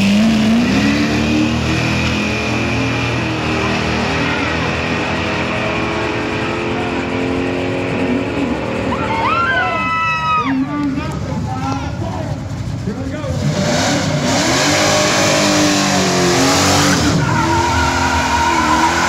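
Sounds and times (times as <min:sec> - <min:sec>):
car engines at full throttle: 0:00.0 - 0:19.0.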